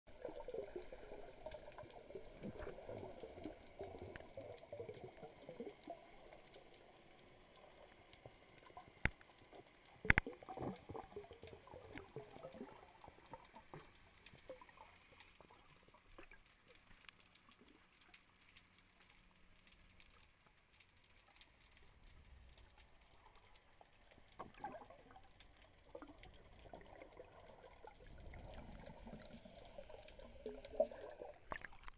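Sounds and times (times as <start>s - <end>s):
underwater bubbling and gurgling: 0.1s - 31.9s.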